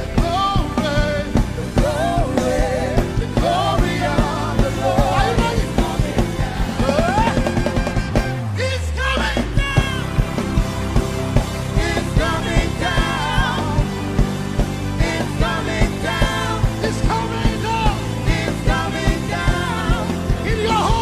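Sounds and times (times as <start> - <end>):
gospel band playing: 0.0 - 21.0
steady drum beat: 0.0 - 21.0.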